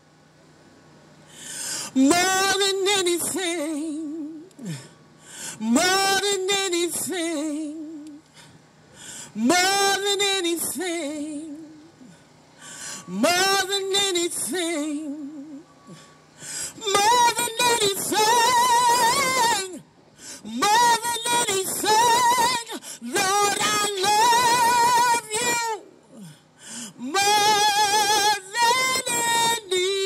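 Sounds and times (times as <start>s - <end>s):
woman singing gospel song: 1.4s - 8.5s, 9.1s - 30.0s.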